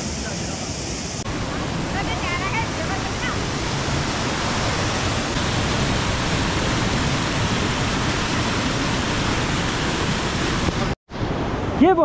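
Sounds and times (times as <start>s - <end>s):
fast-flowing water rushing: 0.0s - 11.0s.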